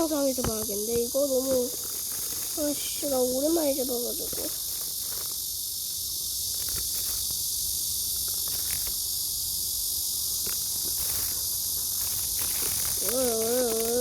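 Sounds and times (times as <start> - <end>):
cicadas singing: 0.0 - 14.0.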